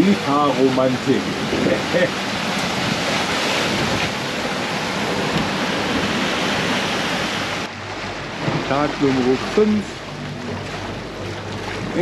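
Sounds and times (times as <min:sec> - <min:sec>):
waves breaking around hull: 0:00.0 - 0:12.0
wind: 0:00.0 - 0:12.0.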